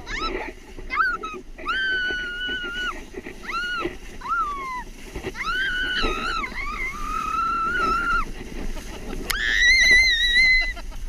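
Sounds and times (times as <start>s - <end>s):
child squealing: 0.0s - 4.8s, 5.4s - 8.3s, 9.3s - 10.8s
sled scraping on snow: 0.0s - 11.0s.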